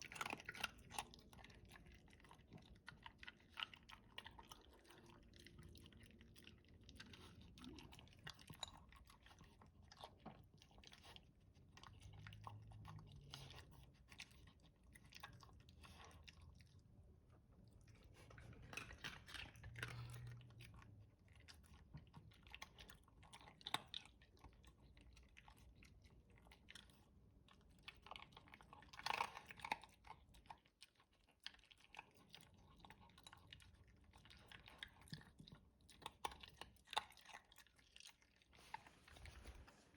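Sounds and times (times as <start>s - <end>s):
dog chewing and crunching food: 0.0s - 39.9s.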